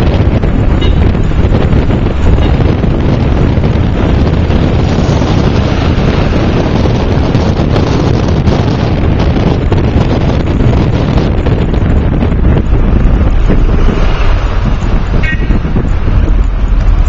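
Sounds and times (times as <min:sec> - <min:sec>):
car driving in traffic: 0:00.0 - 0:17.0
wind buffeting microphone: 0:00.0 - 0:17.0.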